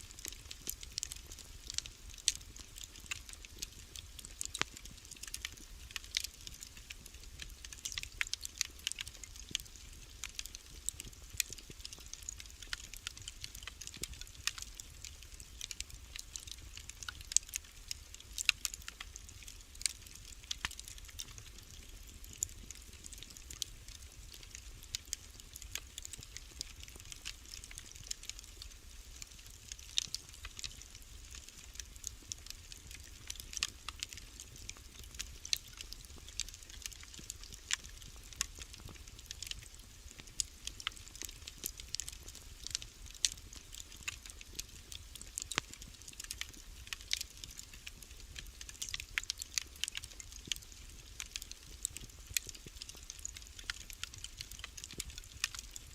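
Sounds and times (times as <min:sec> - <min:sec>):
fireplace fire crackling: 0:00.0 - 0:55.9.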